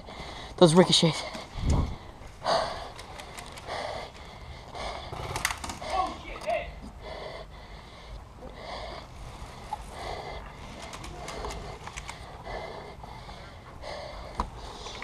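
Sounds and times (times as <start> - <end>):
heavy quick breathing: 1.3 - 15.0.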